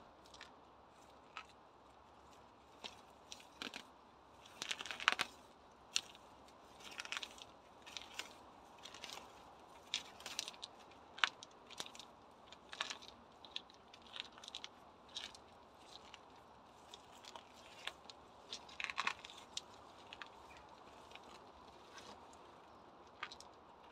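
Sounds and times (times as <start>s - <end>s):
pebbles clicking together: 0.2s - 1.6s, 2.8s - 22.3s, 23.0s - 23.9s.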